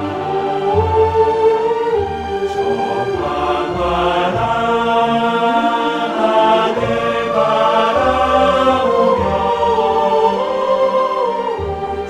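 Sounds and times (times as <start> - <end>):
slow background music: 0.0 - 12.0.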